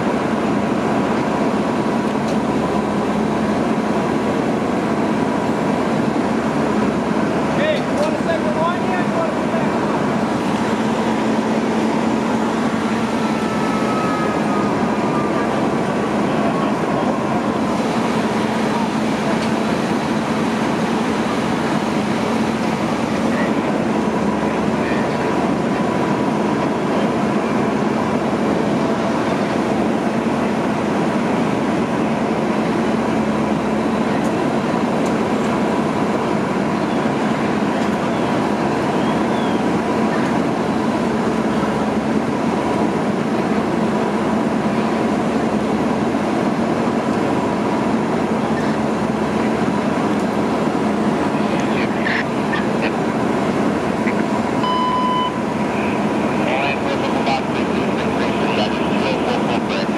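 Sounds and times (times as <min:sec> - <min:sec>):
fire engine pump droning: 0:00.0 - 0:59.9.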